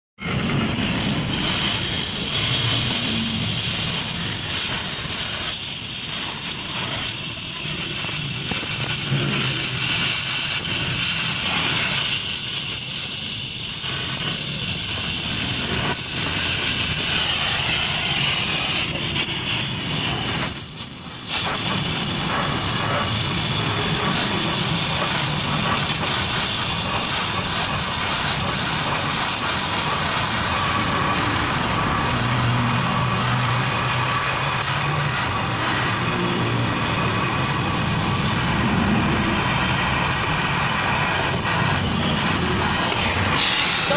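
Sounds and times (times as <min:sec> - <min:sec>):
cutting torch hissing: 0:00.2 - 0:43.9.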